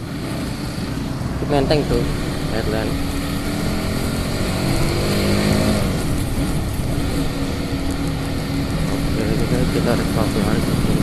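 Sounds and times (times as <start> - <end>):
motorcycle engine: 0.0 - 11.0
wind rumble on microphone: 0.0 - 11.0.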